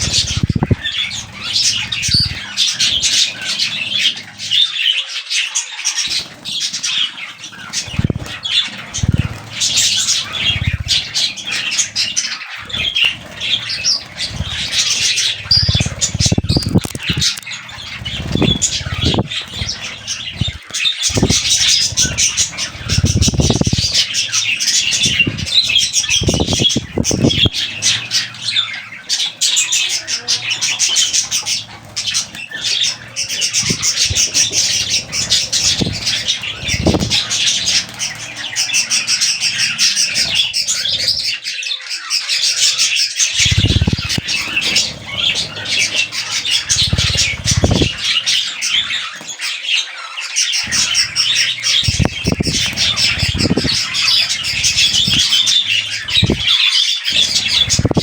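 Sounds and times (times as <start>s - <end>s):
budgerigars chattering: 0.0s - 41.6s, 42.2s - 58.0s.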